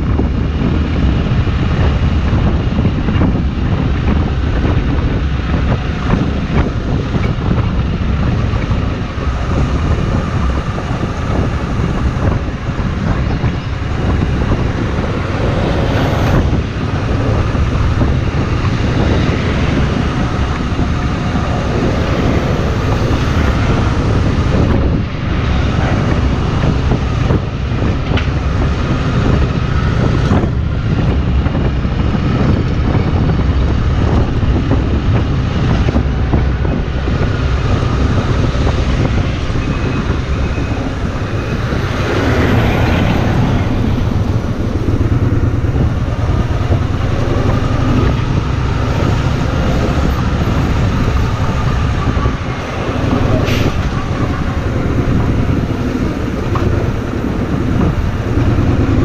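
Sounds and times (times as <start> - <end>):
wind rush over microphone: 0.0 - 59.0.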